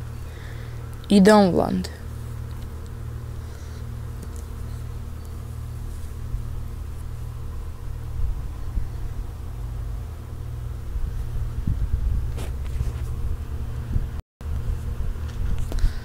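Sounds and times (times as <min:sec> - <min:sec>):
steady low hum: 0:00.0 - 0:16.0
faint rumble: 0:01.9 - 0:16.0.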